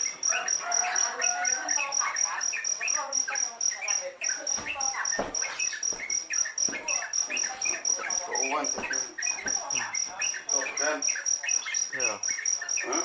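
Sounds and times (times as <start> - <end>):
baby birds chirping: 0.0 - 13.0
cricket-like pulsing chirping: 0.0 - 13.0.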